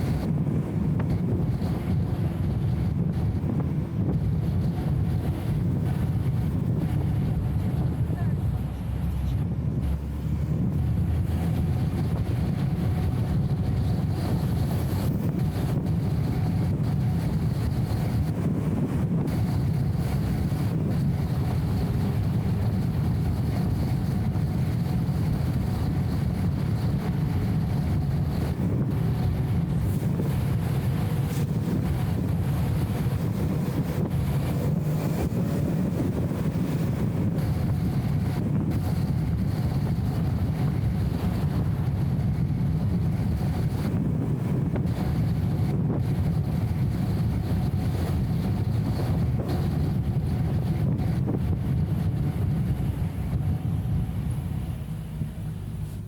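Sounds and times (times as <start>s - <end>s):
car engine and road noise drone: 0.0s - 56.0s.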